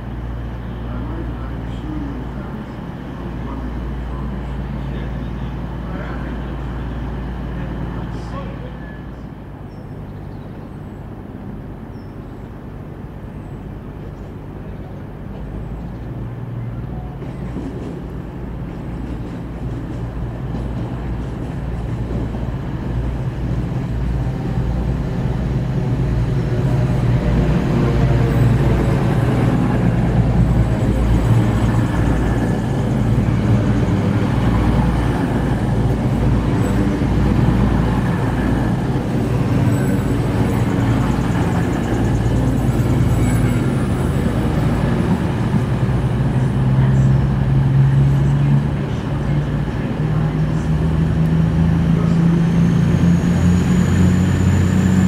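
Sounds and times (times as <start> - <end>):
diesel train engine humming: 0.0 - 55.0.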